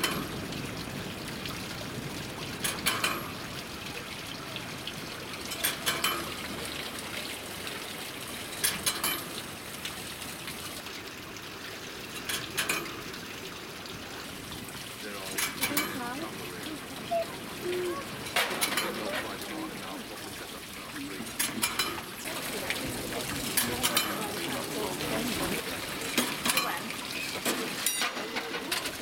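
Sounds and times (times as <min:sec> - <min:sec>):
water trickling and splashing: 0:00.0 - 0:29.0.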